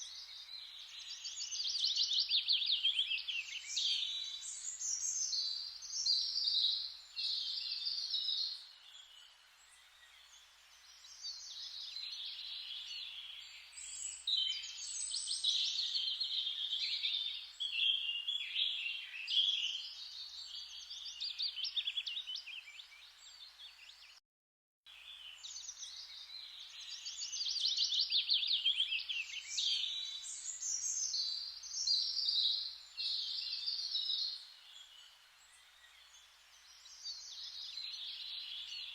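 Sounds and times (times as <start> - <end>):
birds singing and chirping: 0.0 - 24.2, 25.1 - 38.9.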